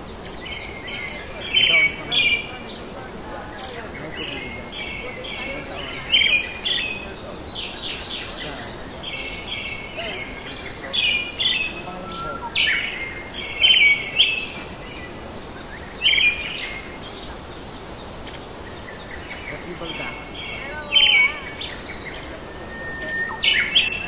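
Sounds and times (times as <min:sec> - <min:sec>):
small birds chirping: 0:00.0 - 0:24.0
steady background hiss: 0:00.0 - 0:24.0.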